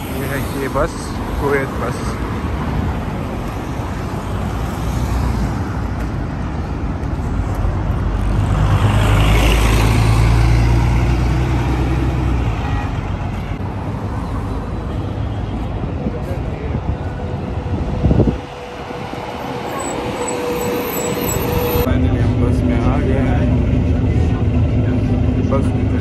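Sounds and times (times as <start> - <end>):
bus engine passing: 0.0 - 26.0
road traffic: 0.0 - 26.0.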